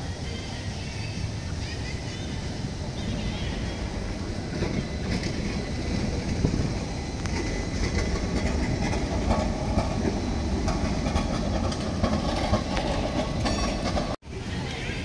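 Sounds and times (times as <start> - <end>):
tram wheels on rails: 0.0 - 15.0.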